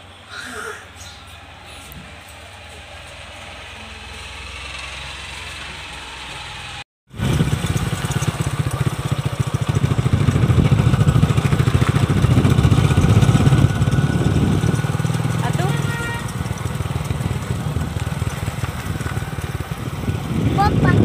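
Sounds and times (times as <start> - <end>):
motorcycle engine running: 1.5 - 21.0.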